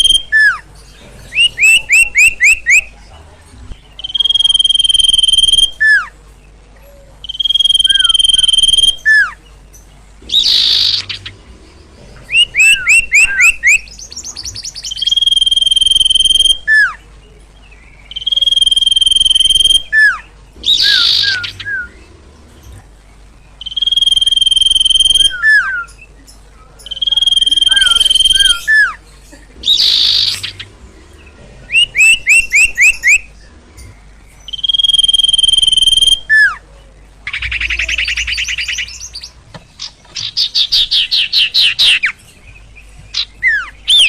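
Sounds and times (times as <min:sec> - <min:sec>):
bird singing whistles and chirps: 0:00.0 - 0:00.6, 0:01.3 - 0:03.0, 0:03.8 - 0:06.1, 0:06.8 - 0:09.4, 0:10.3 - 0:11.3, 0:12.3 - 0:17.0, 0:17.6 - 0:22.1, 0:23.6 - 0:29.0, 0:29.6 - 0:36.7, 0:37.3 - 0:44.0.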